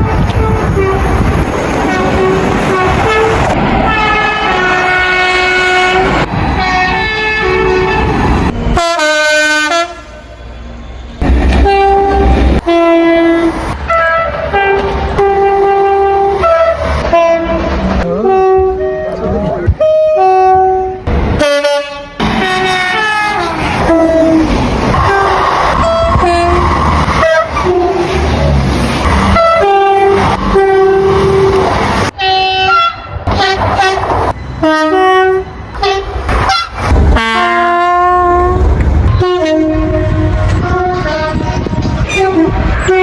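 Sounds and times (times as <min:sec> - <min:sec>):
train horn blasts: 0:00.0 - 0:01.2, 0:01.8 - 0:10.4, 0:11.5 - 0:28.4, 0:29.3 - 0:31.6, 0:32.2 - 0:43.0
rumble of passing trains: 0:00.0 - 0:43.0.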